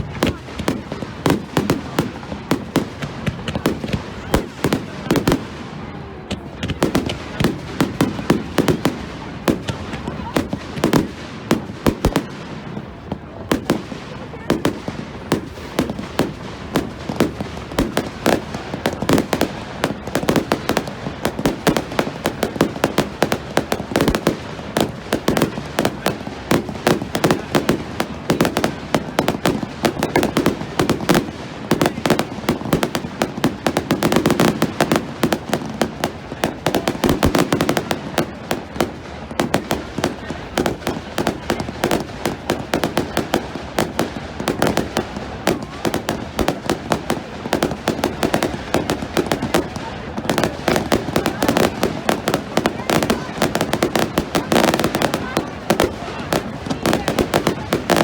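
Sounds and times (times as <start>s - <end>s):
fireworks bangs and crackling pops: 0.0s - 58.0s.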